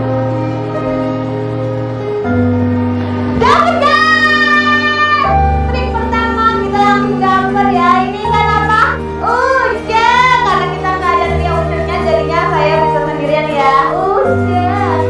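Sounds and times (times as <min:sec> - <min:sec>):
steady bass notes: 0:01.6 - 0:15.0.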